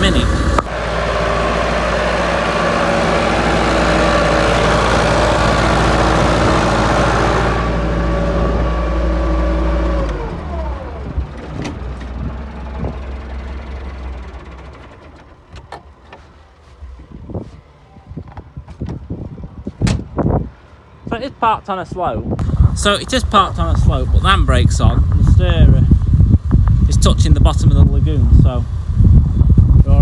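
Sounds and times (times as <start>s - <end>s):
tractor engine running: 0.0s - 19.1s, 22.4s - 30.0s.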